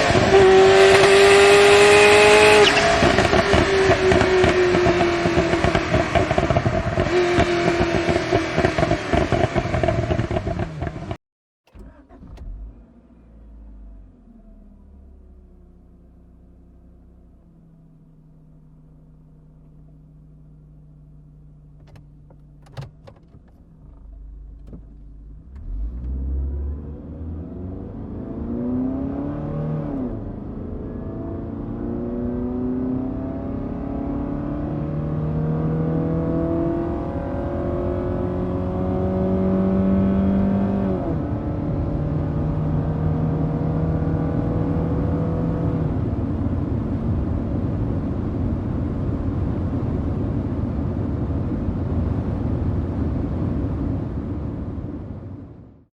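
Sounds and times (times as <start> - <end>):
car engine accelerating: 0.0 - 55.9.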